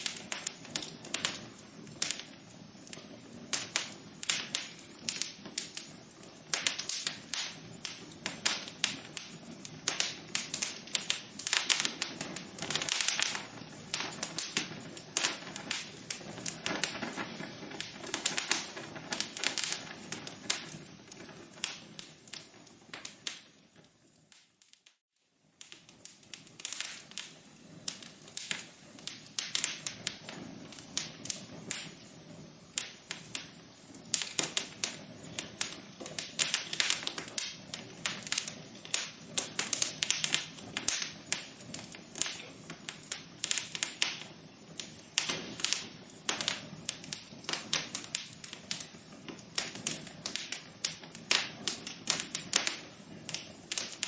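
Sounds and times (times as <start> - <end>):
soft hiss of fire: 0.0 - 54.0
wood fire crackling and popping: 0.0 - 54.0.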